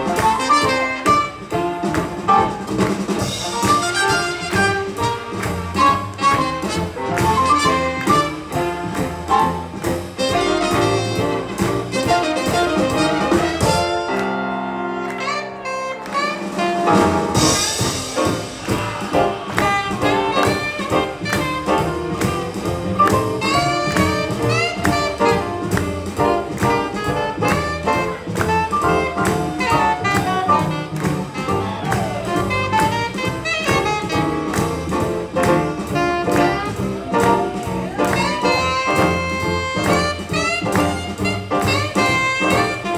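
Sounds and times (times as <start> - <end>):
swing jazz band playing: 0.0 - 42.9.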